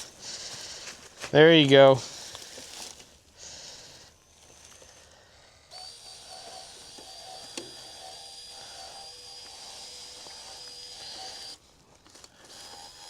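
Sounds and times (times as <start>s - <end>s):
small electric motor whine: 2.0s - 13.0s.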